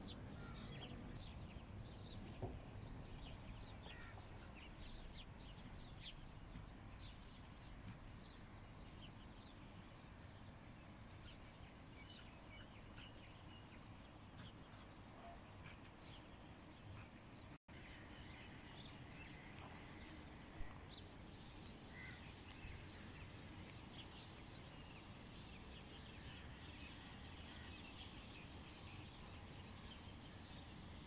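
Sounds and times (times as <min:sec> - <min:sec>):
low steady background noise: 0:00.0 - 0:31.0
small birds chirping: 0:00.0 - 0:31.0.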